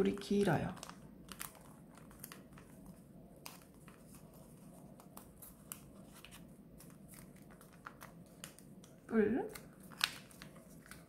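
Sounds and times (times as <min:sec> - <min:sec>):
paper ticks and crinkles: 0:00.0 - 0:11.0.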